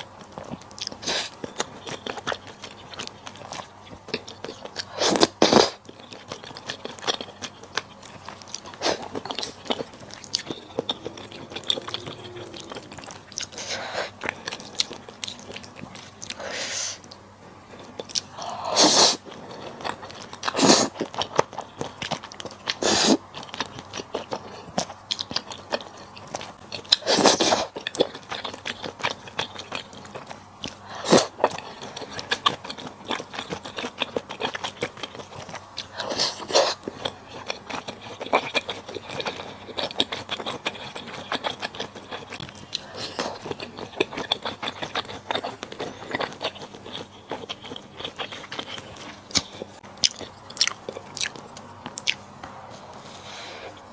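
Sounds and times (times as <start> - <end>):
chewing and crunching mouth sounds: 0.0 - 53.9.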